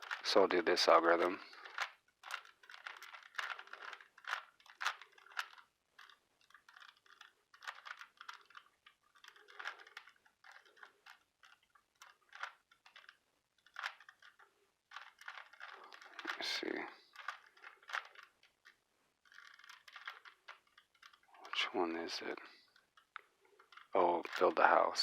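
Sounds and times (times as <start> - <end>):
plastic puzzle cube clicking: 0.0 - 21.7, 22.7 - 24.8.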